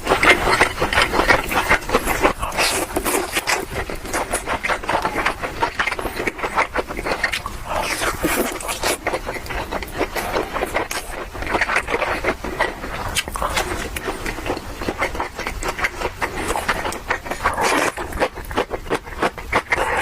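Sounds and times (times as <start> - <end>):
chewing meat with mouth smacks: 0.0 - 20.0.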